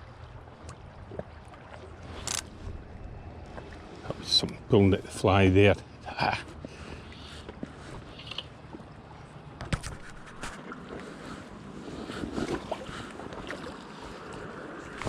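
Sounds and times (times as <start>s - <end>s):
river water running: 0.0s - 15.0s.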